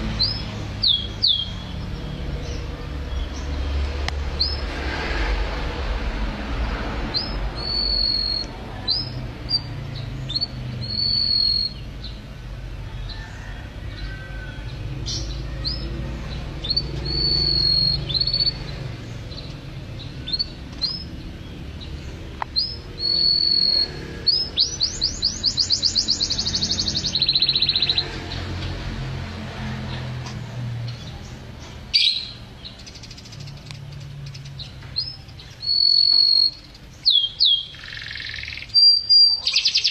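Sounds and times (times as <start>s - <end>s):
canary singing: 0.0s - 4.8s, 7.0s - 29.2s, 30.8s - 39.9s.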